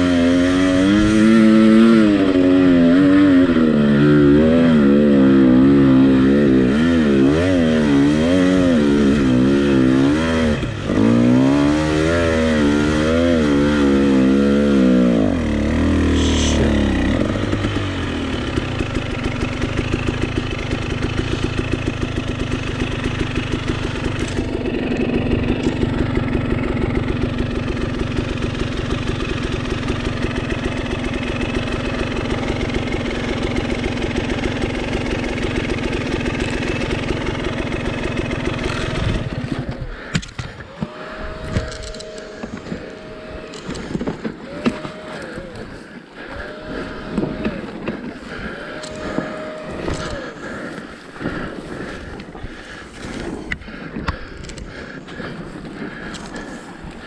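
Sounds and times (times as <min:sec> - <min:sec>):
dirt bike engine idling: 0:00.0 - 0:57.0
dirt bike engine revving: 0:00.0 - 0:57.0.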